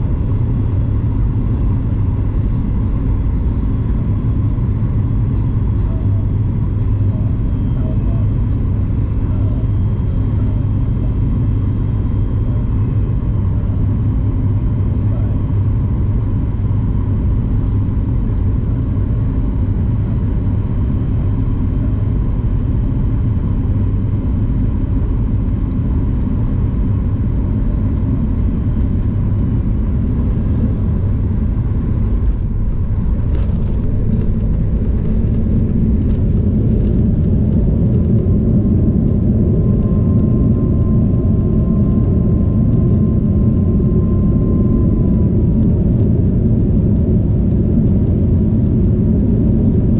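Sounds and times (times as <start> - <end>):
airliner engine rumble: 0.0 - 49.9.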